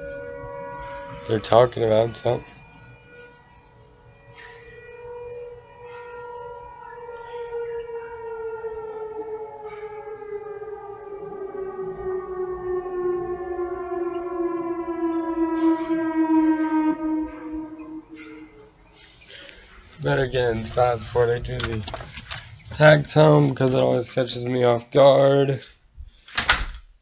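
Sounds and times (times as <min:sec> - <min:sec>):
tornado siren tone: 0:00.0 - 0:25.4.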